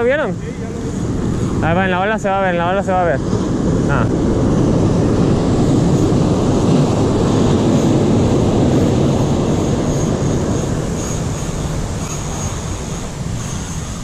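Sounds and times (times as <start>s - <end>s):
surf breaking on beach: 0.0s - 14.0s
wind rumbling on microphone: 0.0s - 14.0s.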